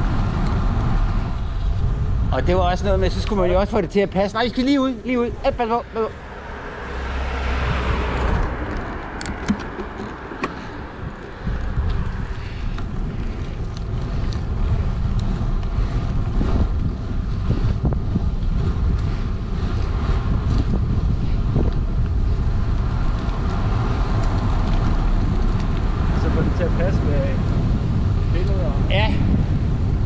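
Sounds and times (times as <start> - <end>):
road and tyre noise: 0.0 - 30.0
van passing: 0.0 - 30.0
wind rushing over microphone: 0.0 - 30.0.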